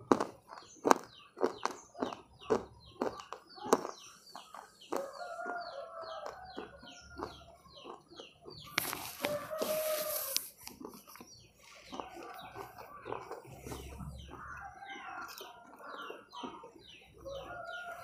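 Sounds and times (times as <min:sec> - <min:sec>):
chewing mouth clicks: 0:00.0 - 0:18.0
chickens clucking: 0:00.0 - 0:18.0
drawn-out hen calls: 0:01.6 - 0:18.0.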